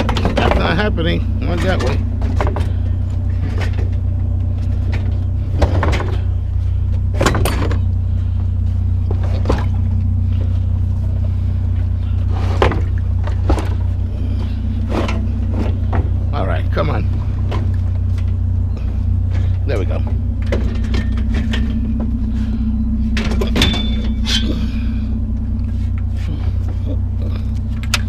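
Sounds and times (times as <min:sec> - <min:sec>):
scrap metal knocks and clunks: 0:00.0 - 0:07.9, 0:11.2 - 0:16.3, 0:16.9 - 0:26.9
vehicle engine idling: 0:00.0 - 0:28.0.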